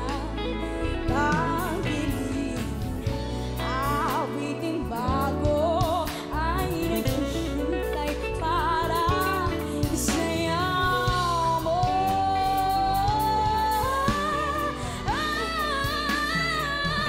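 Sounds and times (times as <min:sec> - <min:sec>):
instrumental backing music: 0:00.0 - 0:17.0
woman singing with vibrato: 0:00.0 - 0:17.0.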